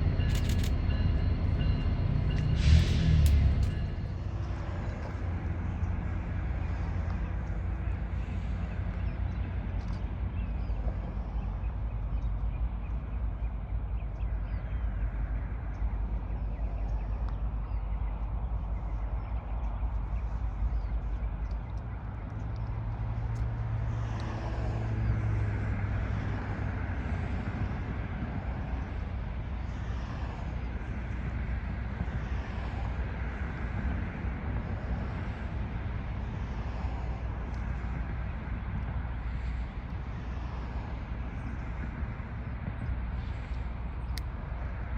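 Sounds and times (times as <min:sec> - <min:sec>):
deep engine drone: 0:00.0 - 0:44.9
low vehicle rumble: 0:00.0 - 0:44.9.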